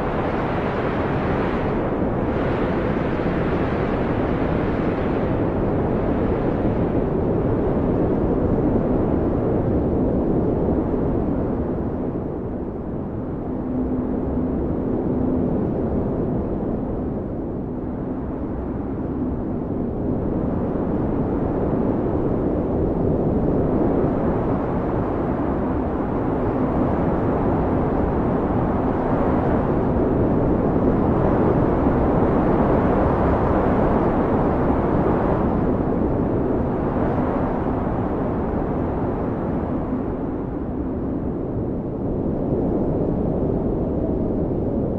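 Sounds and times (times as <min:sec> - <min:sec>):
blizzard wind gusts: 0:00.0 - 0:44.9.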